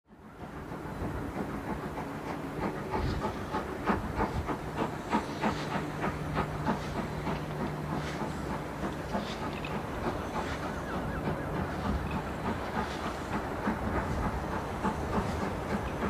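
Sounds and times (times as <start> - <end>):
train wheels clicking over rail joints: 0.1 - 16.0
steam hiss: 0.4 - 16.0.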